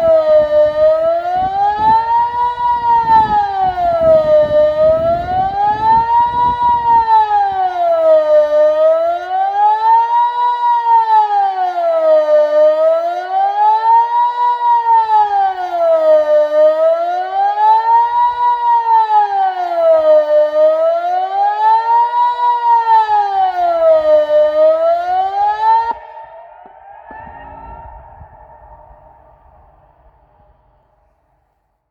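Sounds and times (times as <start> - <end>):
civil defence siren wailing: 0.0 - 31.4.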